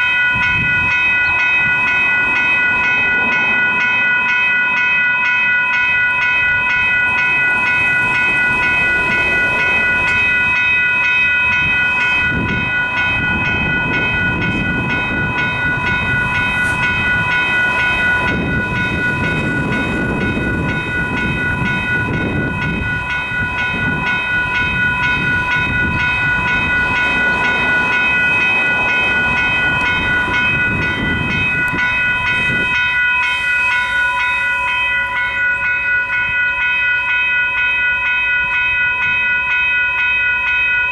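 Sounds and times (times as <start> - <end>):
level crossing bells ringing: 0.0 - 40.9
train rumbling past: 0.0 - 40.9.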